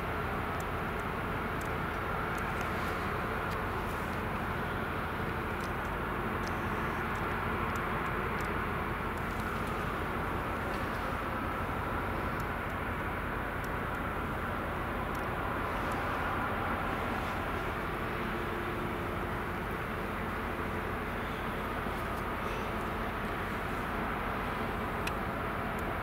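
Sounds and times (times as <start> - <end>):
faint high ticks: 0.0 - 26.0
ship machinery rumble and hum: 0.0 - 26.0.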